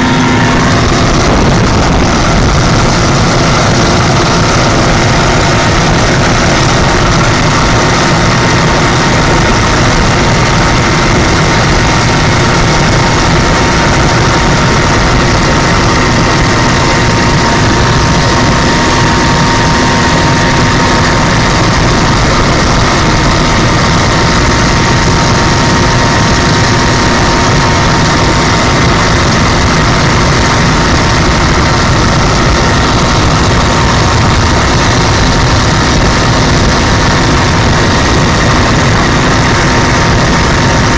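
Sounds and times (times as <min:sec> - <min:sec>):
constant whining tone: 0:00.0 - 0:40.9
helicopter engine and rotor drone: 0:00.0 - 0:40.9.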